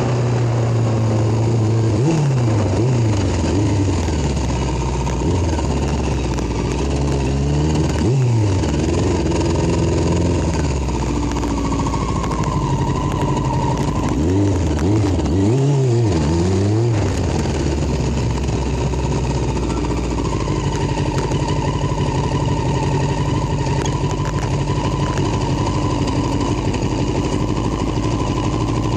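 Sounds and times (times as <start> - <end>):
small motorbike engine revving: 0.0 - 28.9.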